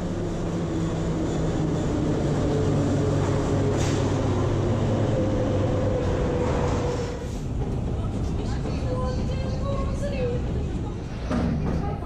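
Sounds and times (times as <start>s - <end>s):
faint train whine: 0.0s - 11.3s
train wheels and motors rumbling: 0.0s - 12.0s.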